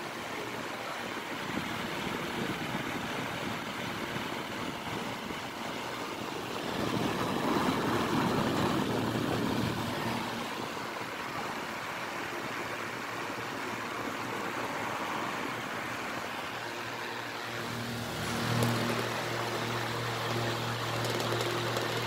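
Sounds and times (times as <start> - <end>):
desk fan running on high: 0.0 - 22.0.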